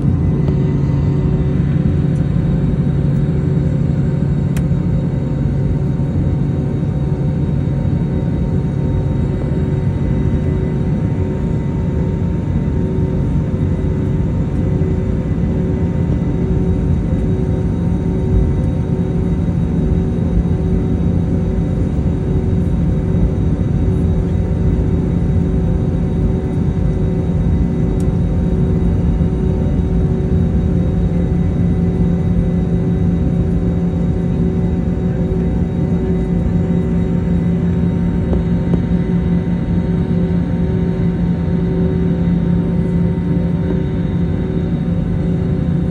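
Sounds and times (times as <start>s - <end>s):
jet engine cabin rumble: 0.0s - 45.9s
jet engine whine: 0.0s - 45.9s.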